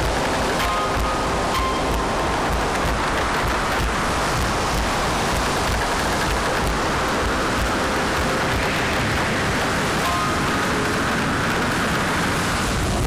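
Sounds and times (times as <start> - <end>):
choppy sea rushing: 0.0 - 13.0
wind buffeting microphone: 0.0 - 13.0.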